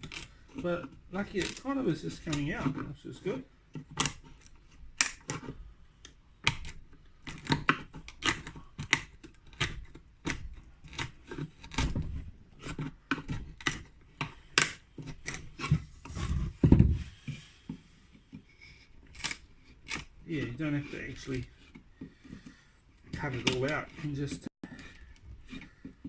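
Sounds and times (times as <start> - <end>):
chisel clicking and scraping wood: 0.0 - 2.9, 3.7 - 16.5, 17.2 - 26.0.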